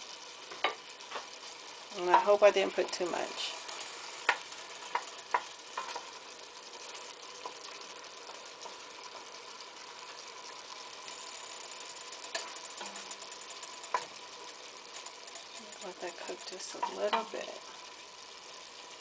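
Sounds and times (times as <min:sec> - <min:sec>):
sizzling in hot oil: 0:00.0 - 0:19.0.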